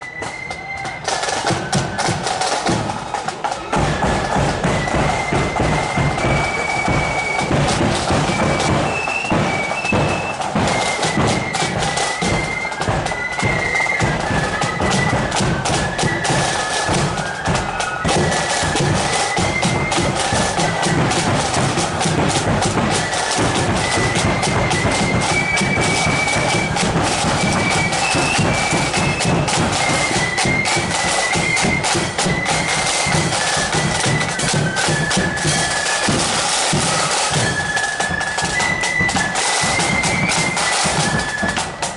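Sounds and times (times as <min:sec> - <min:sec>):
high-pitched flutes playing: 0:00.0 - 0:41.9
snare drums: 0:00.0 - 0:41.9.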